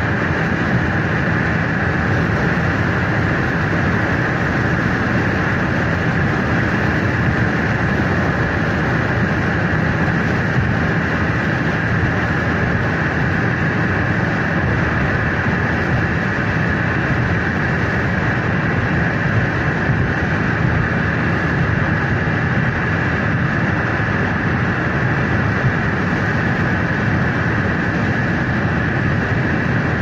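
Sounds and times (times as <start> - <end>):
road and engine noise in car: 0.0 - 30.0.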